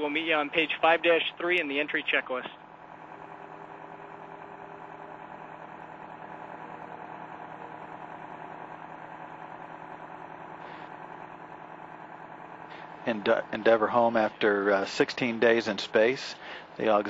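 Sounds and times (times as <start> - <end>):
mechanical drone: 0.0 - 17.0.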